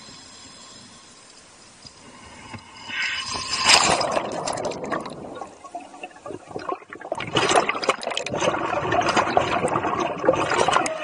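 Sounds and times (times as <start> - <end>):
underwater bubbling: 0.0 - 11.0.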